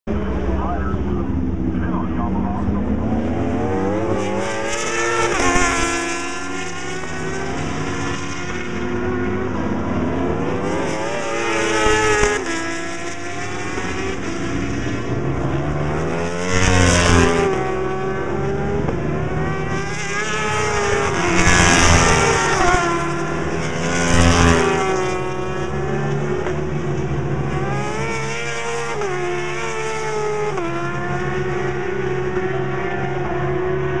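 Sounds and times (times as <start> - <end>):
racing motorcycles accelerating past: 2.6 - 34.0.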